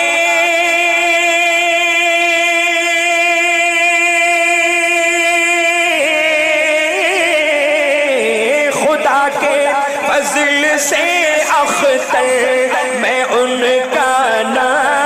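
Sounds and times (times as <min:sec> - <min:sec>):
person singing unaccompanied: 0:00.0 - 0:15.0.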